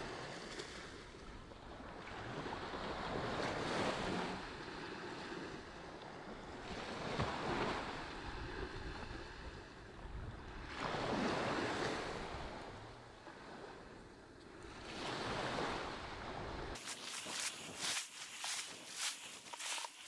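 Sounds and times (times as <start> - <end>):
wind rumble on microphone: 0.0 - 16.8
waves breaking on sandy beach: 0.0 - 20.0.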